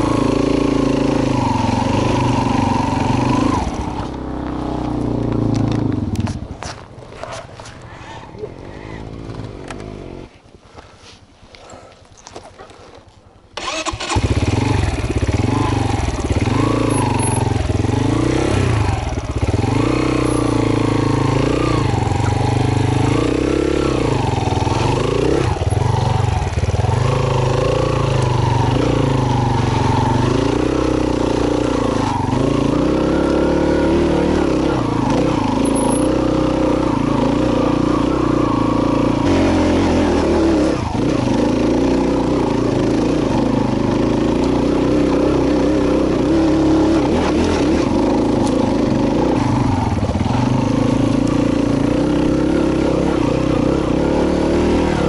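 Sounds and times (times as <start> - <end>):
motorcycle engine revving: 0.0 - 6.5, 13.6 - 55.0.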